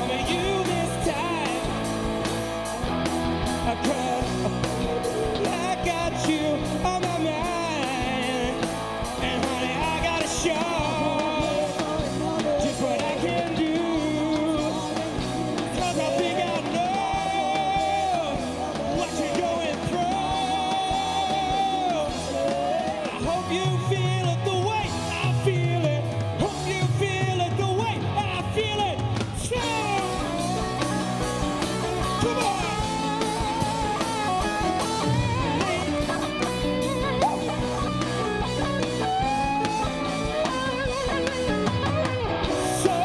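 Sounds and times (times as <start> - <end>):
lead vocalist singing: 0.0 - 2.4, 3.4 - 43.0
drum kit beat: 0.0 - 43.0
live rock band playing: 0.0 - 43.0.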